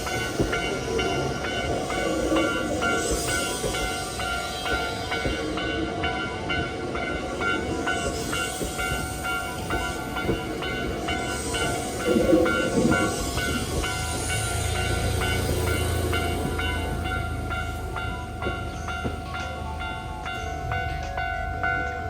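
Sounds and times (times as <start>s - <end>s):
level crossing warning bell: 0.0s - 22.0s
train rumbling over crossing: 0.0s - 22.0s.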